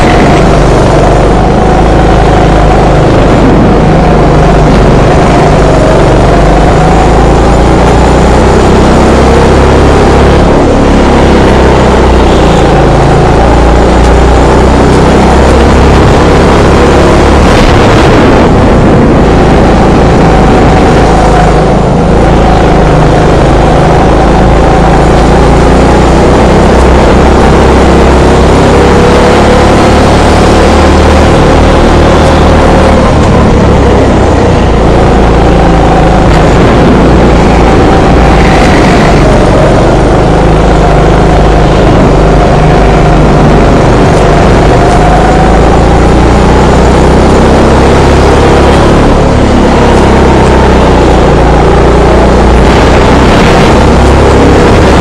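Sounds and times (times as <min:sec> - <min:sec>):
go-kart engine accelerating: 0:00.0 - 0:55.0.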